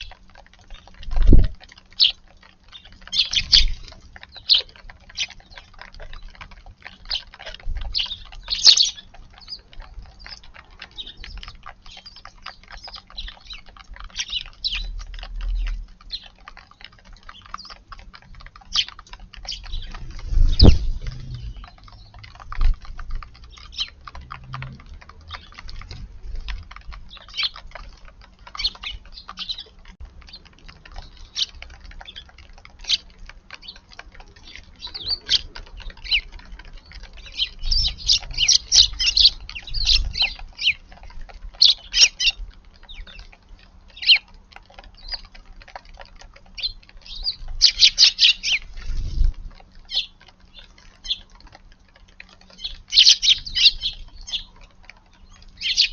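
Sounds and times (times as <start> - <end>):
sparrows chirping: 0.0 - 55.9.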